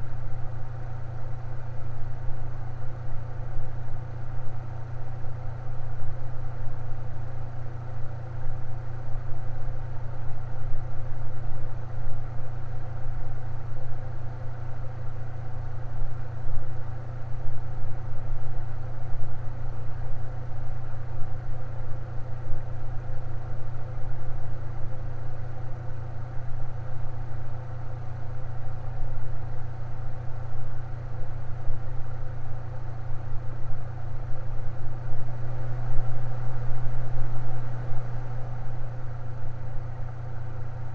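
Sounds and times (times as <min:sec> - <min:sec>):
electric fan running: 0:00.0 - 0:40.9.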